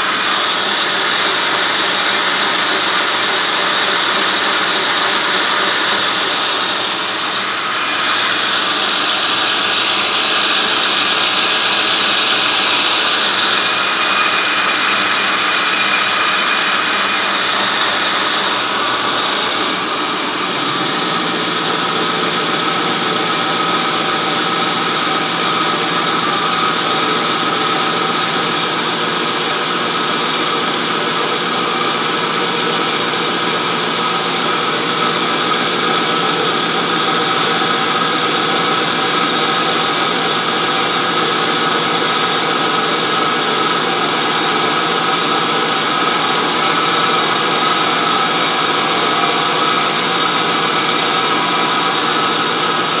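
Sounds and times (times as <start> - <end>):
car engine running: 0.0 - 53.0
high-pitched belt whine: 0.0 - 53.0.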